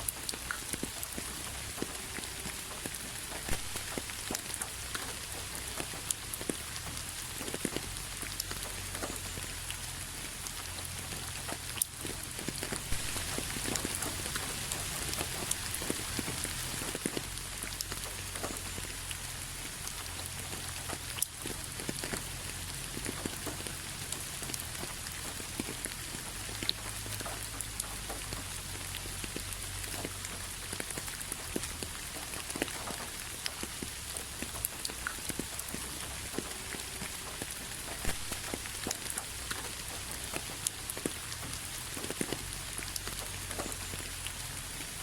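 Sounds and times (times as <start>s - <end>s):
raindrops ticking on a surface: 0.0s - 45.0s
steady rain hiss: 0.0s - 45.0s.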